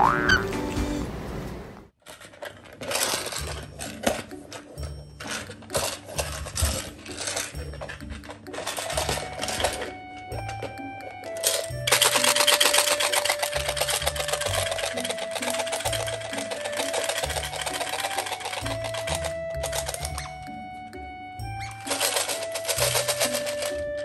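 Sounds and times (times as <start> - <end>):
toy cube rattling: 2.0 - 20.8, 21.4 - 24.0.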